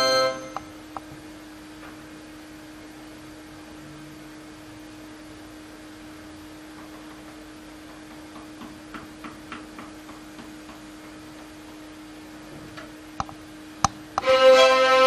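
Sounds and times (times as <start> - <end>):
steady low hum: 0.0 - 9.2, 9.9 - 14.6.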